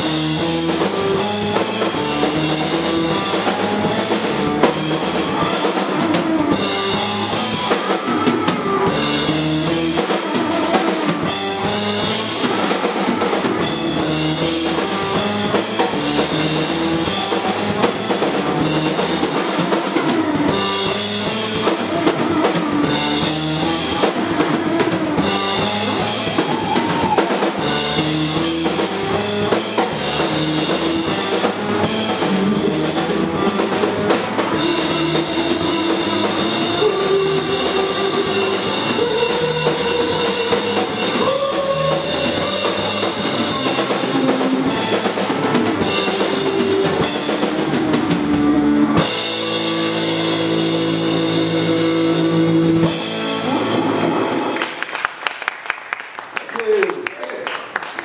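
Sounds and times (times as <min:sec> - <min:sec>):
distorted electric guitar: 0:00.0 - 0:54.7
electric bass: 0:00.0 - 0:54.8
drum kit: 0:00.0 - 0:55.7.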